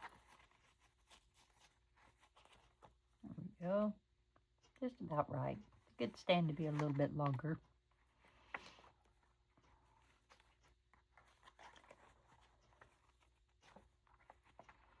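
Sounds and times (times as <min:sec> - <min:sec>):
paper and lace rustling: 0:00.0 - 0:03.8, 0:05.6 - 0:15.0.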